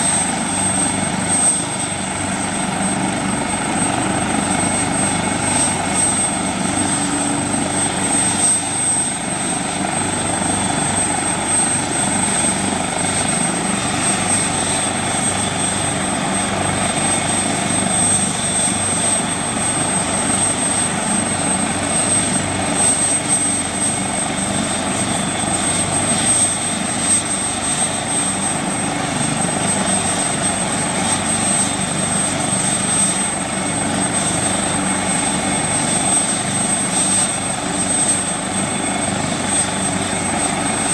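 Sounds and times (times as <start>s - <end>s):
helicopter engine and rotor: 0.0s - 40.9s
high-pitched turbine whine: 0.0s - 40.9s.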